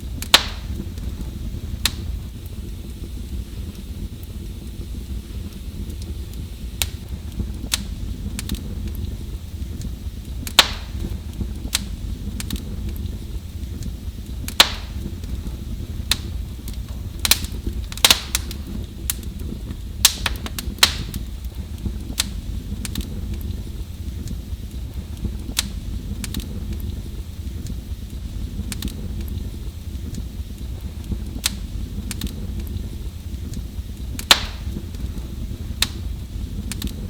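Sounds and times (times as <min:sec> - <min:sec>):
low rumble of flames: 0:00.0 - 0:37.0
wood fire pops and snaps: 0:00.0 - 0:37.0.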